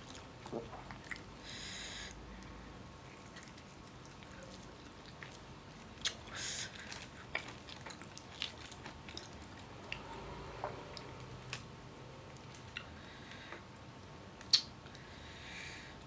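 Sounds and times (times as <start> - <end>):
soft chewing: 0.0 - 1.4, 2.1 - 15.1.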